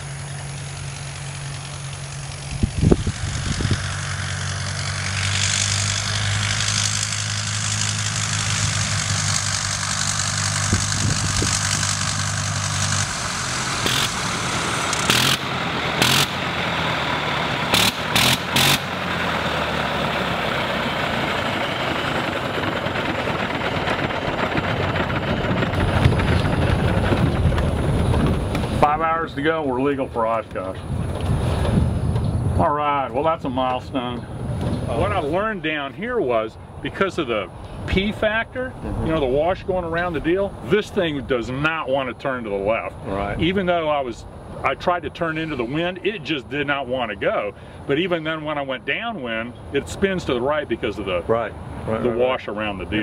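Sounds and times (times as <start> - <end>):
rotary aircraft engine running: 0.0 - 53.0.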